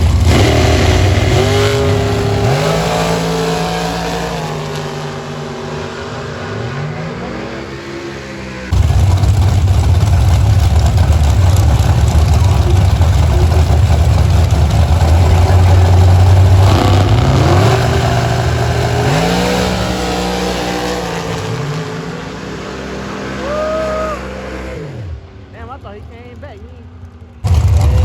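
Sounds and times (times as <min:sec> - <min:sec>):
drag car engine rumbling and revving: 0:00.0 - 0:28.0.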